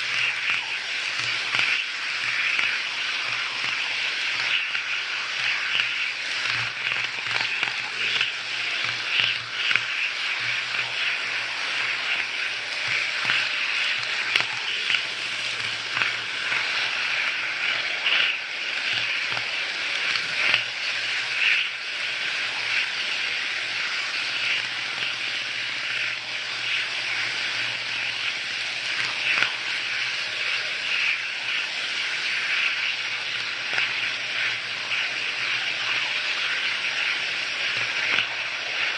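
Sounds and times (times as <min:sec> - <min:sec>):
model train wheels hissing on rails: 0:00.0 - 0:38.9.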